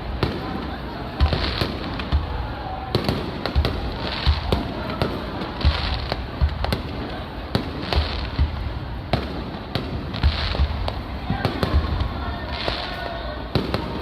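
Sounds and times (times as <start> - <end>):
fireworks bangs and booms: 0.0 - 14.0
fireworks crackle: 0.0 - 14.0.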